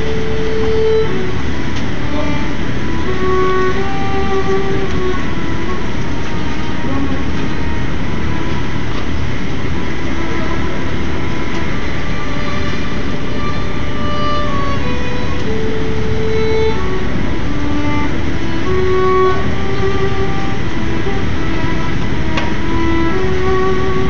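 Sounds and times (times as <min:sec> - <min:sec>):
loud steady rumble: 0:00.0 - 0:24.0
solo violin playing held notes: 0:00.0 - 0:24.0.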